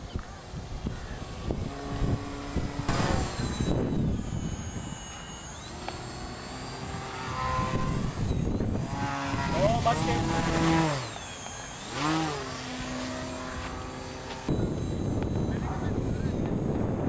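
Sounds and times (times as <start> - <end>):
wind rumbling on microphone: 0.0 - 11.2, 12.0 - 17.0
model plane motor whining: 0.0 - 17.0.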